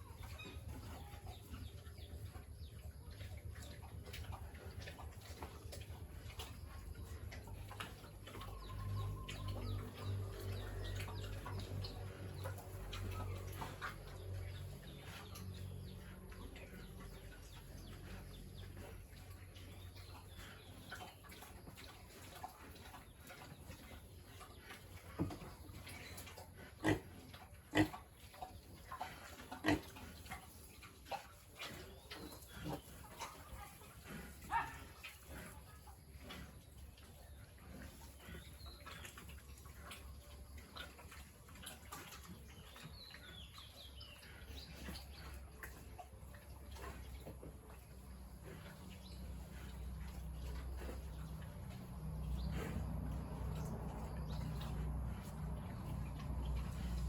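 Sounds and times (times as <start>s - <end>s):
pigs grunting: 3.7s - 57.0s.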